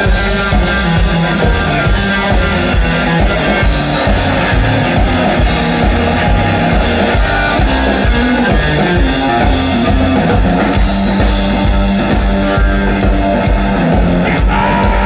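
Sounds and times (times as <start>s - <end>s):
electric guitar: 0.0s - 15.0s
steady drum beat: 0.0s - 15.0s
upright bass: 0.0s - 15.0s.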